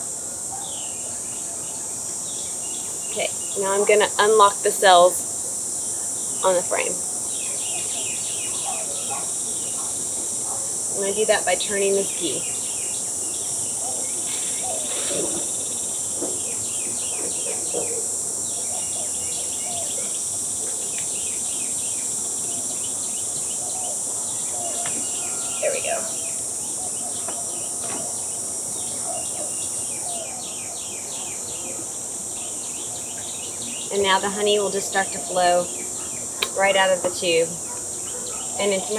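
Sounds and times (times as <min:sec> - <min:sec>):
insects chorus: 0:00.0 - 0:38.9
birds chirping: 0:05.4 - 0:38.9.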